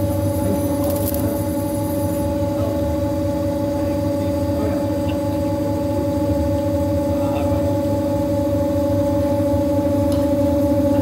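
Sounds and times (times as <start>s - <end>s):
milling machine hum and whine: 0.0s - 11.0s.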